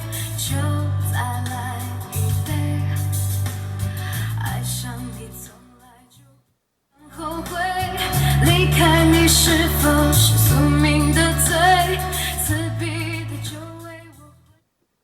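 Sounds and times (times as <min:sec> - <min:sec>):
steady bass notes: 0:00.0 - 0:05.4, 0:07.2 - 0:14.0
woman singing pop song: 0:00.0 - 0:06.4, 0:07.0 - 0:14.5.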